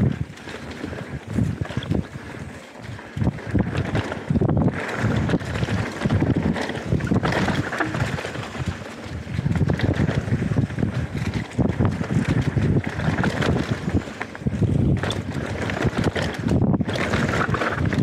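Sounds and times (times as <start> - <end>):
bike rattling over bumps: 0.0 - 18.0
bike tyres rolling on dirt: 0.0 - 18.0
wind buffeting microphone: 0.0 - 18.0.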